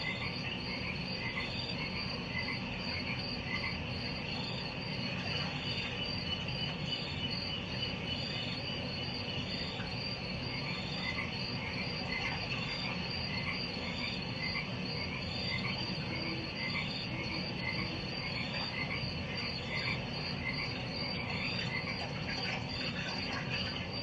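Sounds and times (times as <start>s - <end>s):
frog calls: 0.0s - 24.0s
insect trill: 0.0s - 24.0s.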